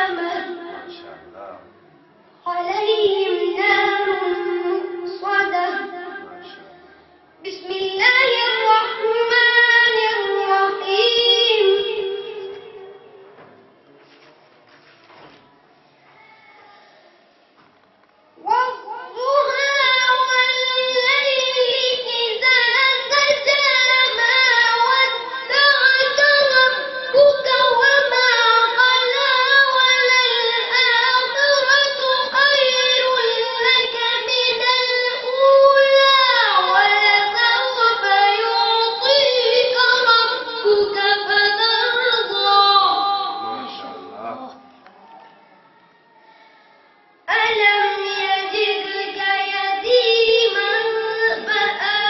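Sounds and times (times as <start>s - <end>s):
boy chanting recitation: 0.0s - 13.5s, 18.4s - 44.8s, 46.3s - 52.0s.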